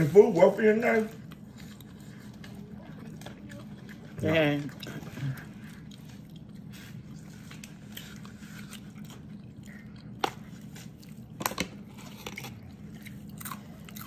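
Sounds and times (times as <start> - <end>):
person chewing crispy food: 0.0 - 14.0
steady low hum: 0.0 - 14.0.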